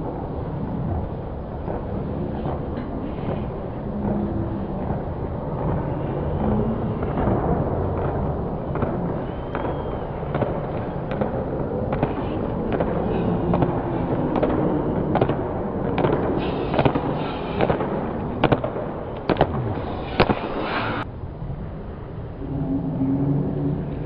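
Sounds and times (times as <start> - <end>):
crowd noise echoing indoors: 0.0 - 24.0
sharp slaps and knocks: 1.7 - 21.1.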